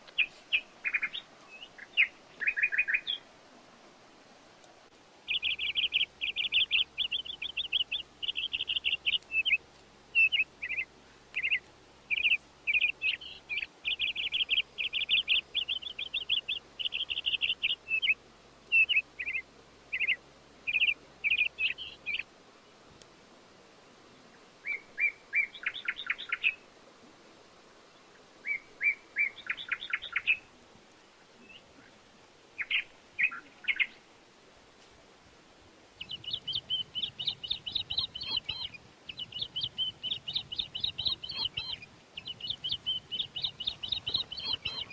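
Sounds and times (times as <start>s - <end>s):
small birds chirping: 0.0s - 3.4s, 4.9s - 22.8s, 24.2s - 26.7s, 27.8s - 34.1s, 35.9s - 44.9s.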